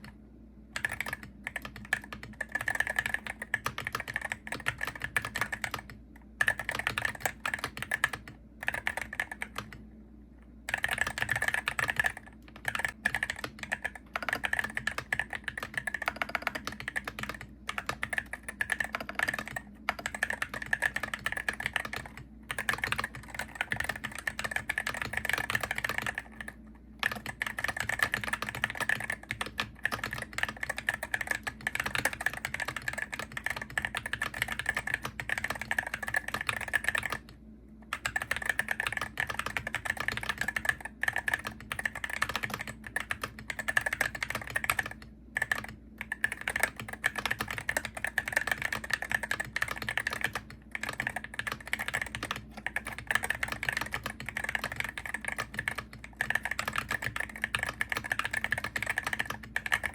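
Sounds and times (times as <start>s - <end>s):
keyboard typing: 0.8s - 9.8s, 10.7s - 59.9s.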